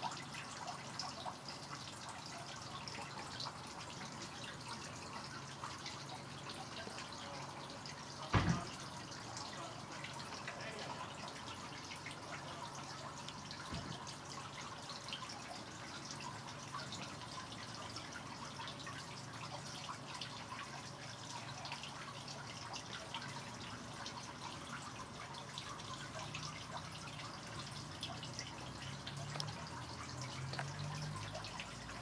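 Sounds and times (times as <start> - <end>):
water dripping: 0.0 - 32.0.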